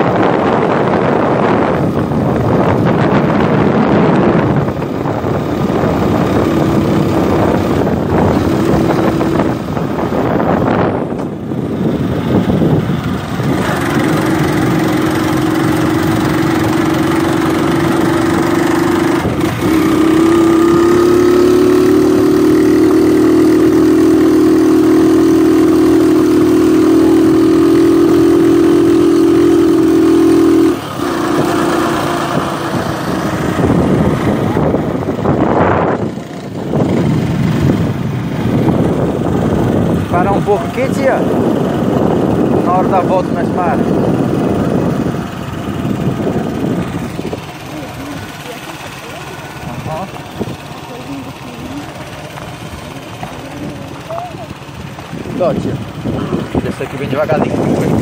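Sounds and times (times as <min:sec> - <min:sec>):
small motorcycle engine running: 0:00.0 - 0:58.0
wind buffeting microphone: 0:00.0 - 0:58.0.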